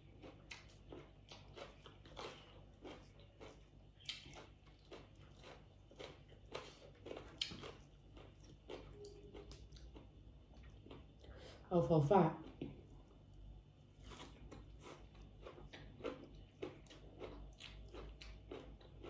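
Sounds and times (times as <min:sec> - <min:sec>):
person chewing: 0:00.0 - 0:11.5, 0:12.4 - 0:19.0.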